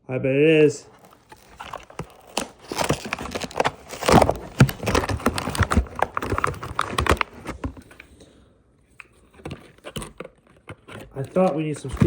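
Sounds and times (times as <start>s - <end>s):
toy packaging being pried open: 0.9s - 8.1s, 9.0s - 12.0s.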